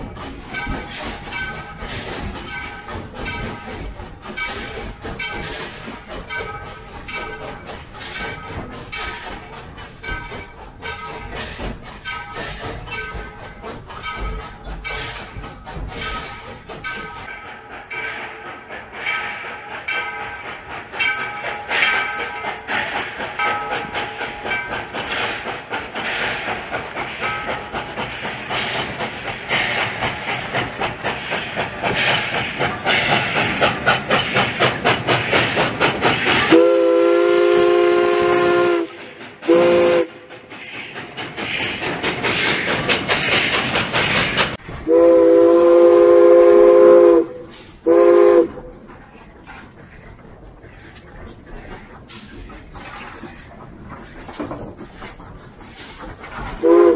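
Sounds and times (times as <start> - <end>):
steam locomotive chuffing: 0.0 - 56.9.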